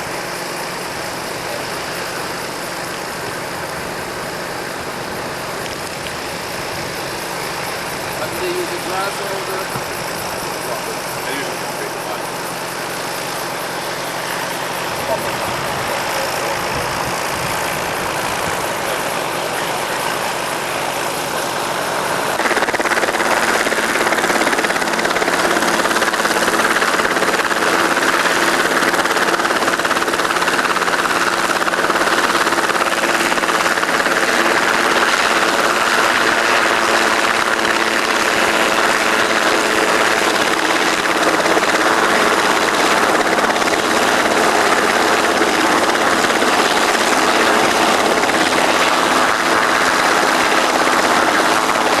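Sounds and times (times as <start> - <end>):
aircraft engine running: 0.0 - 52.0.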